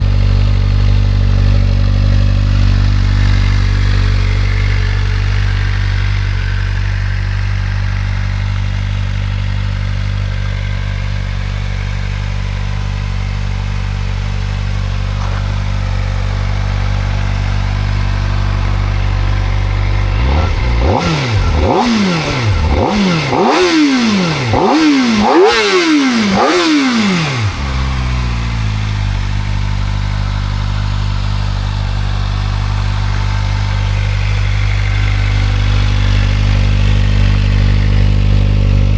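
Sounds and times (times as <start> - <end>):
motorcycle engine idling: 0.0 - 38.9
motorcycle engine revving: 0.0 - 38.9.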